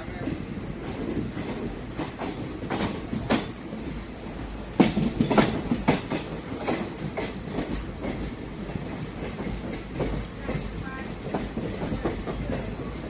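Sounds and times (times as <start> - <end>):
train low rumble: 0.0 - 13.0
train wheels clacking: 0.0 - 13.0.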